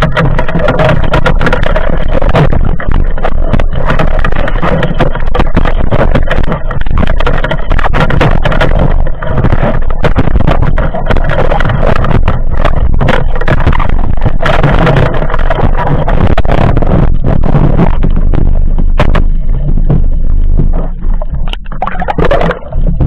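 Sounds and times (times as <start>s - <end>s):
water rushing underwater: 0.0s - 23.0s.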